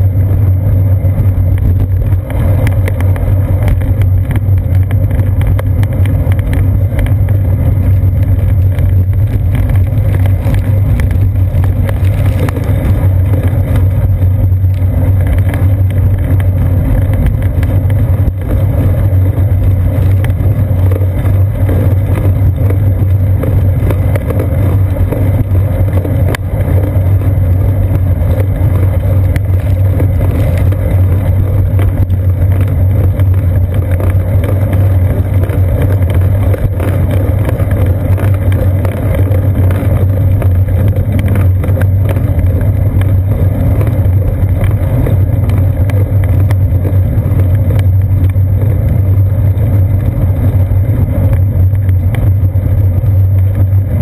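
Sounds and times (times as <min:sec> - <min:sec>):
bicycle tyre noise on pavement: 0:00.0 - 0:54.0
low rumble of wind: 0:00.0 - 0:54.0
road vibration rumble: 0:00.0 - 0:54.0.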